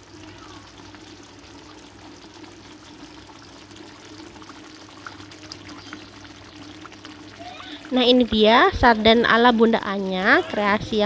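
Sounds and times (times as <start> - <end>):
faint steady hum: 0.0 - 11.0
sauce bubbling in a pan: 0.0 - 11.0.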